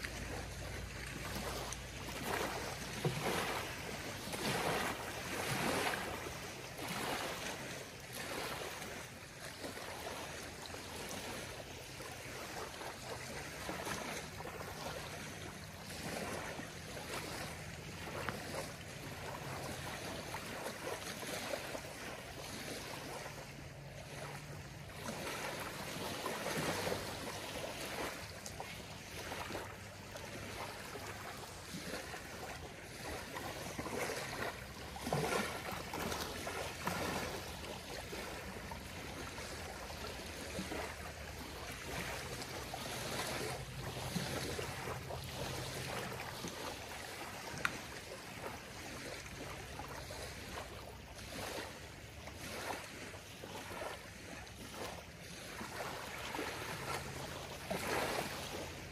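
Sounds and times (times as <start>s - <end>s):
waves lapping on gravel shore: 0.0s - 58.9s.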